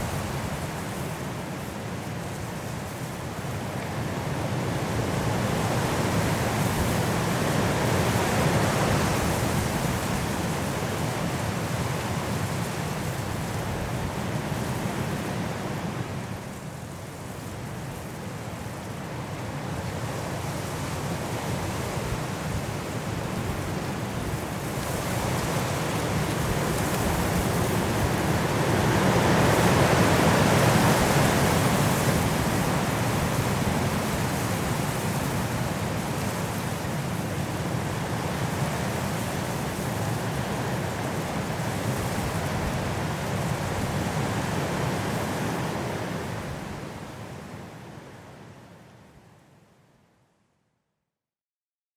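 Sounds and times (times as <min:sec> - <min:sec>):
high wind blowing through trees: 0:00.0 - 0:50.3.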